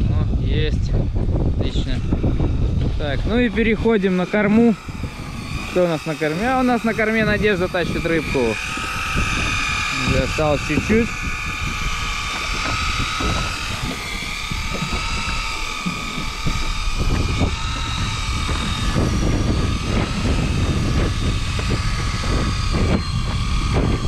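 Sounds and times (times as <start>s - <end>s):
low rumble: 0.0s - 24.0s
motor whining: 0.0s - 24.0s.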